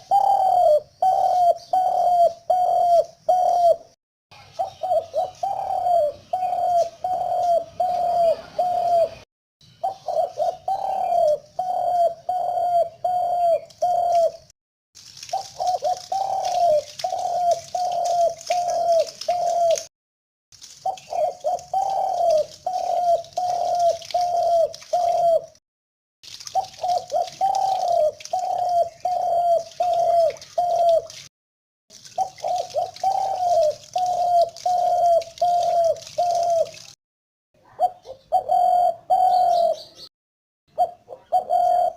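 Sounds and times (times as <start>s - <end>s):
dove cooing: 0.0s - 4.0s, 4.6s - 9.2s, 9.8s - 14.5s, 15.3s - 19.9s, 20.8s - 25.6s, 26.6s - 31.1s, 32.2s - 36.8s, 37.7s - 40.0s, 40.8s - 41.9s.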